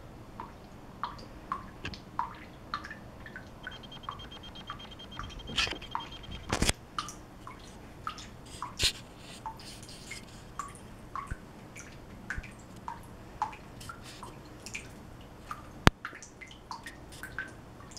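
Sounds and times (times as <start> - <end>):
water dripping into sink: 0.4 - 8.8, 10.6 - 17.9.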